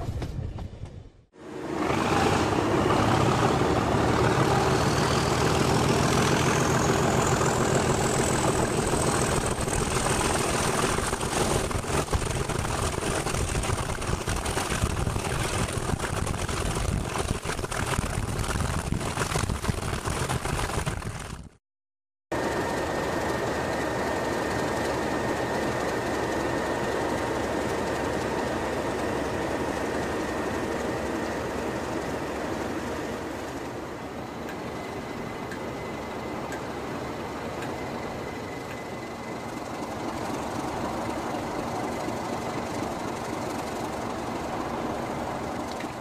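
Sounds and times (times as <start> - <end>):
diesel locomotive engine running: 0.0 - 17.2, 22.4 - 46.0
constant high whine: 0.0 - 21.5, 22.3 - 46.0.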